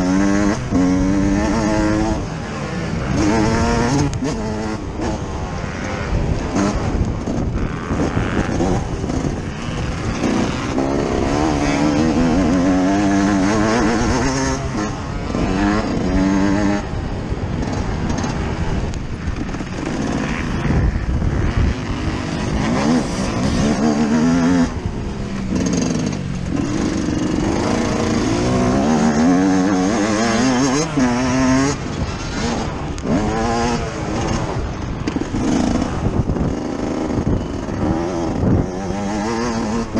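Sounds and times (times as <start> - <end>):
two-stroke motorbike engine revving: 0.0 - 39.9.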